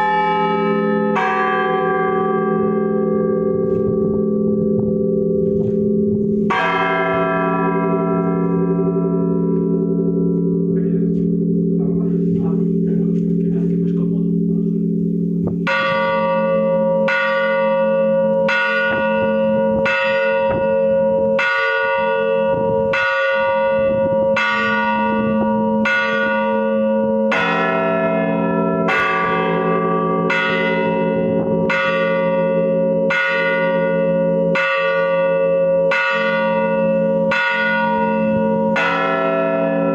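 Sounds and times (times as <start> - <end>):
large bells tolling: 0.0 - 39.9.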